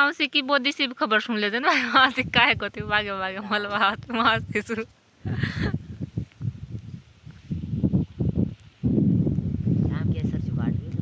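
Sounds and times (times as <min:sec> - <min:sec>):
wind buffeting microphone: 0:01.7 - 0:11.0.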